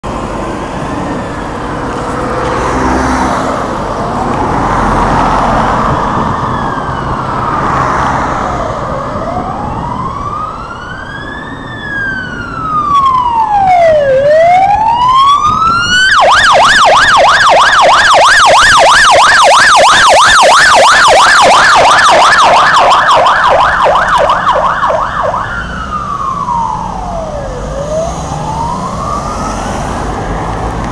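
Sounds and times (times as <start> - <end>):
police car siren: 0.0 - 30.9.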